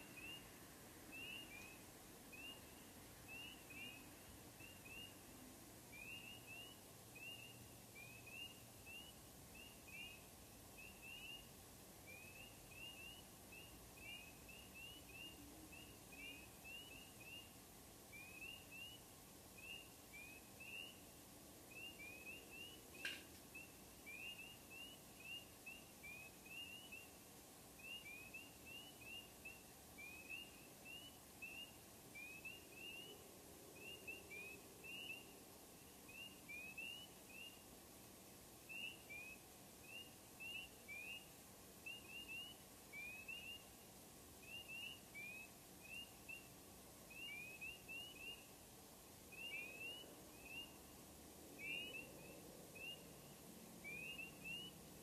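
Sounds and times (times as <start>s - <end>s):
spring peepers chorus: 0.0s - 55.0s.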